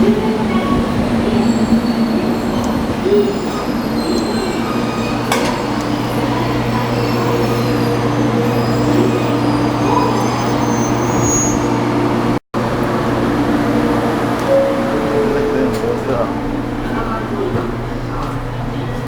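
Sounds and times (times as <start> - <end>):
electric train running drone: 0.0 - 18.8.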